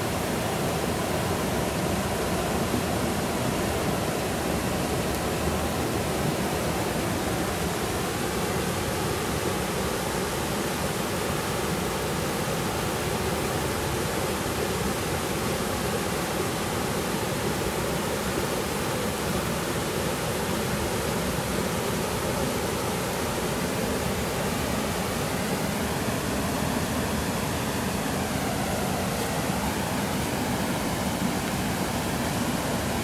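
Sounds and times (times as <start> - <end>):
small waterfall splashing: 0.0 - 33.0.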